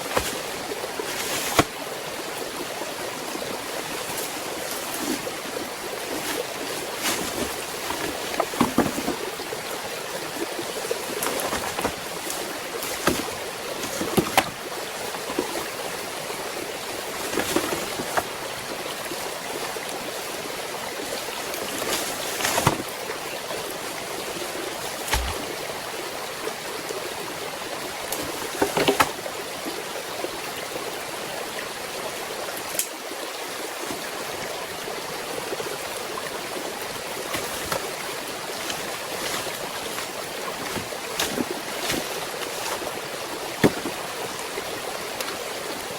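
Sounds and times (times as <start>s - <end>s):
running stream water: 0.0s - 45.9s.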